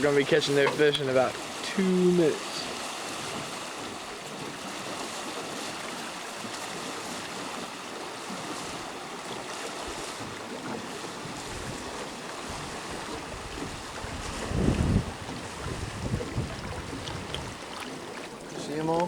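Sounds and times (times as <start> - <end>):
river water rushing around boat: 0.0 - 19.0
wind buffeting microphone: 2.2 - 19.0.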